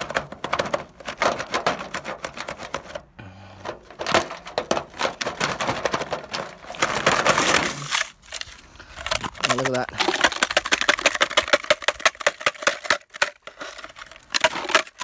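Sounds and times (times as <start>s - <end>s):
ice and vent parts clicking and crackling: 0.0s - 15.0s.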